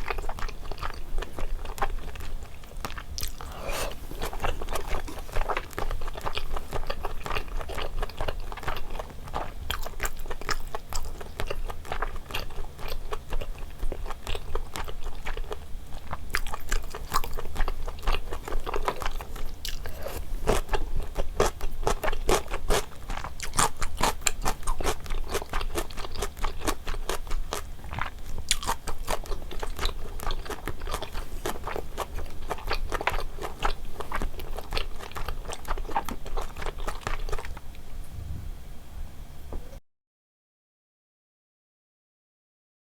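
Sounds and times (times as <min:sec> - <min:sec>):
chewing and biting food: 0:00.0 - 0:37.8.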